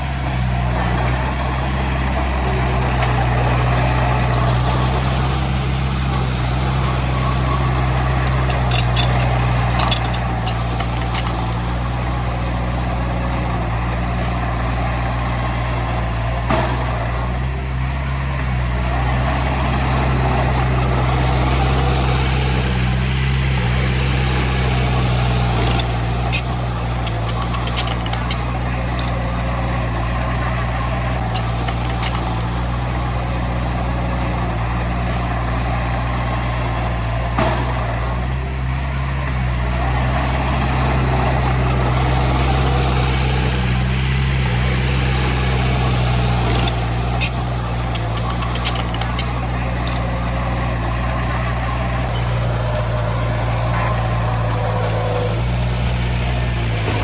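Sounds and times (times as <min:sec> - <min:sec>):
heavy diesel engine running: 0:00.0 - 0:57.0
metallic clanks and clicks: 0:00.3 - 0:14.2, 0:20.0 - 0:35.0, 0:39.2 - 0:57.0.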